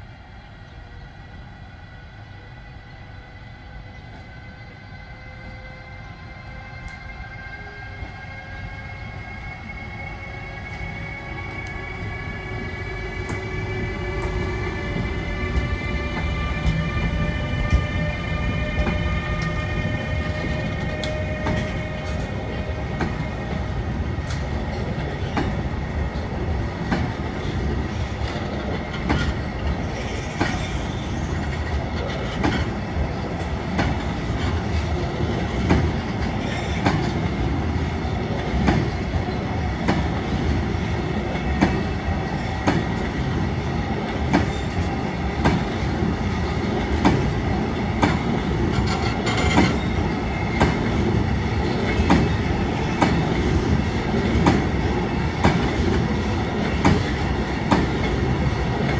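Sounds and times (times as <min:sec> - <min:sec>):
train wheels rumbling on rail: 0:00.0 - 0:58.9.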